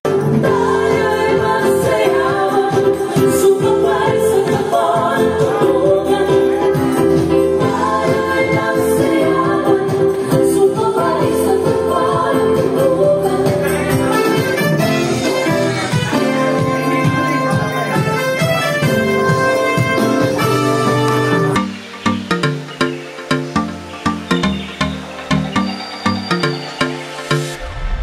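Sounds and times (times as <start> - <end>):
song with band accompaniment: 0.1 - 28.0.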